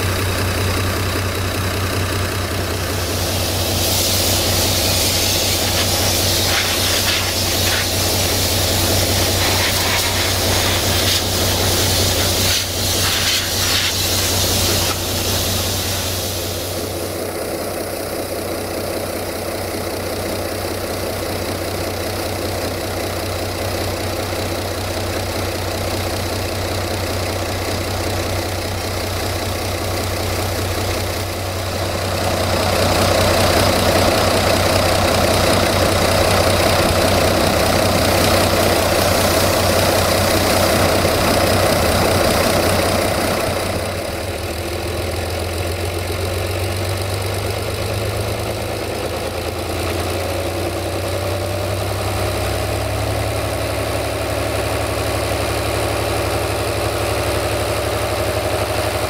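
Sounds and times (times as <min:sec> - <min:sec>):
diesel railcar engine running: 0:00.0 - 0:59.0.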